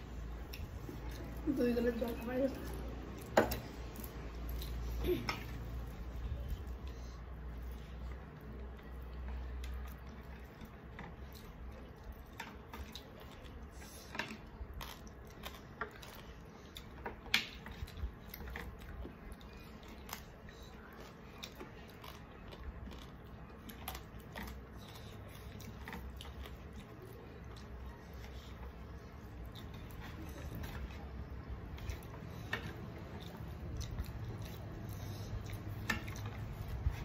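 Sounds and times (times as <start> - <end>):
people chewing food: 0.0 - 37.0.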